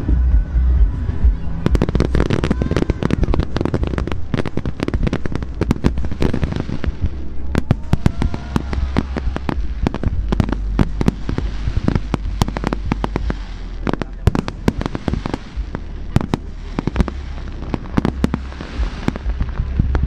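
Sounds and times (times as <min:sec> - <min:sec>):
low rumble: 0:00.0 - 0:20.0
fireworks whistling: 0:01.5 - 0:19.7
fireworks cracks and bangs: 0:01.5 - 0:20.0.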